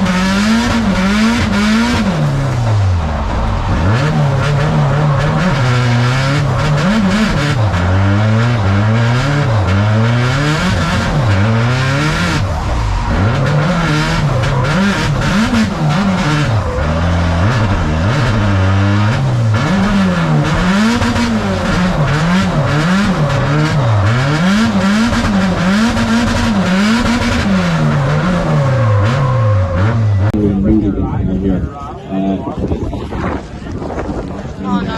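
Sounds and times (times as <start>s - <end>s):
car engine revving: 0.0s - 31.7s.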